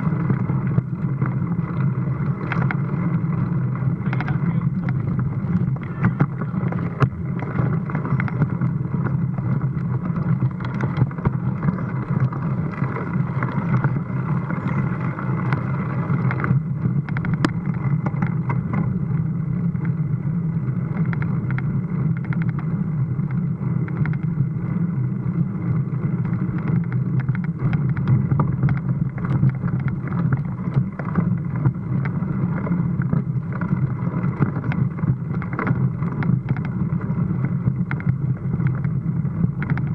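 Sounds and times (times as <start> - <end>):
bike rattles and knocks: 0.0 - 39.9
wind and tyre rumble: 0.0 - 39.9.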